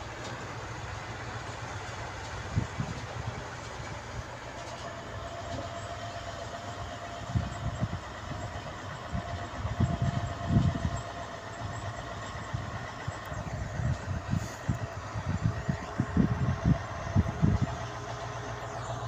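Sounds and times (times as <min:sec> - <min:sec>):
diesel truck engine rumbling: 0:00.0 - 0:19.0
low buffeting: 0:00.0 - 0:19.0.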